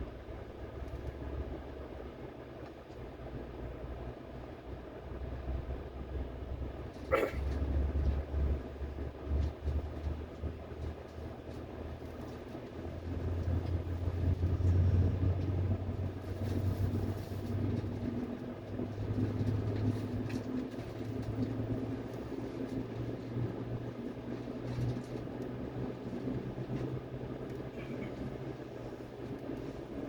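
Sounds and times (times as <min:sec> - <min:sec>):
faint hum: 0:00.0 - 0:30.0
subway train rumbling: 0:00.0 - 0:30.0.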